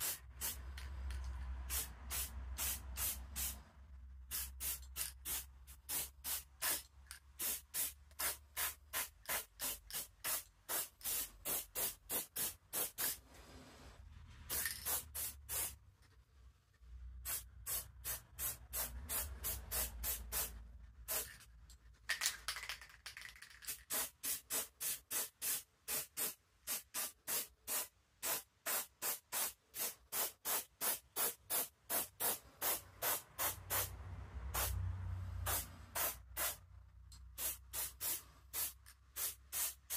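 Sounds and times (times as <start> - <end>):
spray paint can hissing: 0.0 - 0.9, 1.7 - 3.6, 4.3 - 13.2, 14.5 - 15.8, 17.2 - 20.5, 21.1 - 21.4, 22.2 - 33.9, 35.4 - 36.6, 37.3 - 39.9.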